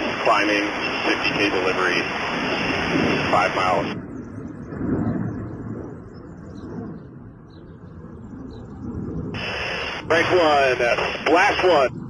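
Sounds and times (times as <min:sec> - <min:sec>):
muffled rumbling over radio: 0:00.0 - 0:06.9, 0:08.1 - 0:12.0.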